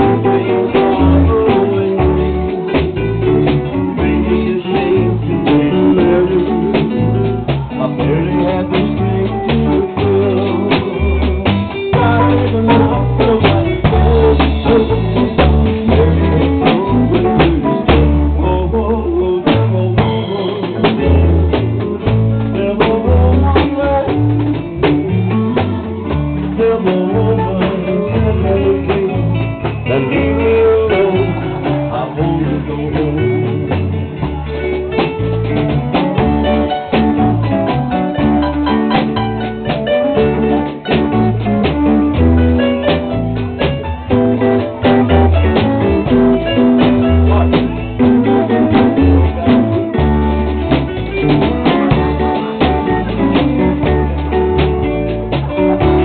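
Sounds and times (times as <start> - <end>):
drum hits: 0.0 - 18.6, 19.5 - 56.0
bass line: 0.0 - 56.0
guitar lines: 0.0 - 56.0
live band playing: 0.0 - 56.0.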